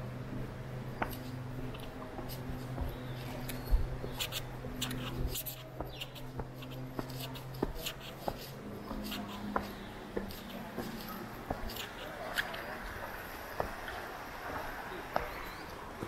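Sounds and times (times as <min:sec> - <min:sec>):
steady low hum: 0:00.0 - 0:16.0
footsteps scuffing on path: 0:01.0 - 0:15.6.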